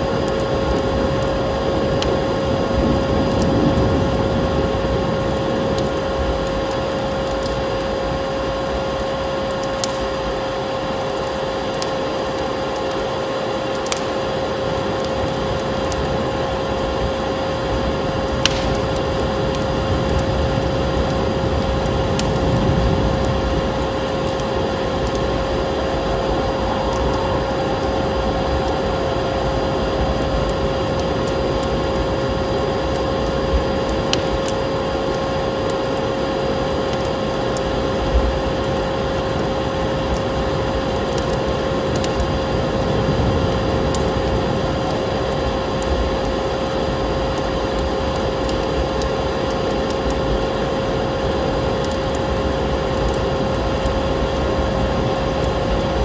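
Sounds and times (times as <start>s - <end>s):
constant hum: 0.0s - 56.0s
snowstorm wind: 0.0s - 56.0s
wood fire crackling: 0.0s - 56.0s.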